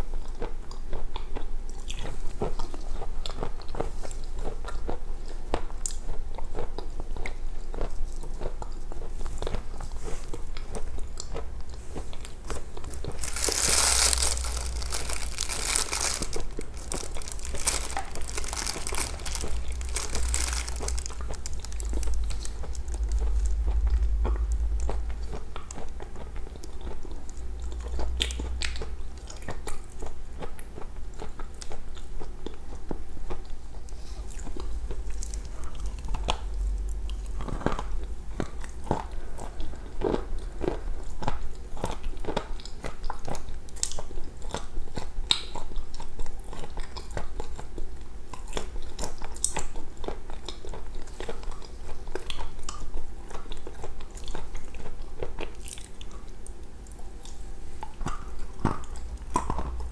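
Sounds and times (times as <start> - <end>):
person chewing food: 0.1 - 59.9.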